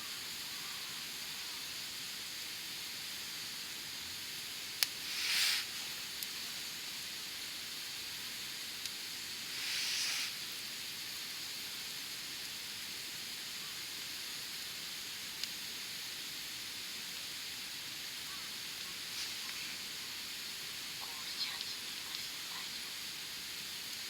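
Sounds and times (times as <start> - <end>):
campfire burning with hiss: 0.0 - 24.0.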